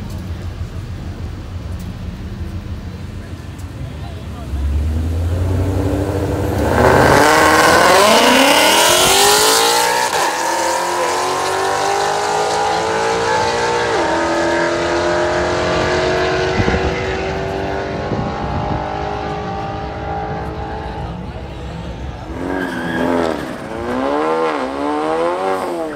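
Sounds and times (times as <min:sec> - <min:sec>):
car engines revving: 0:00.0 - 0:25.9.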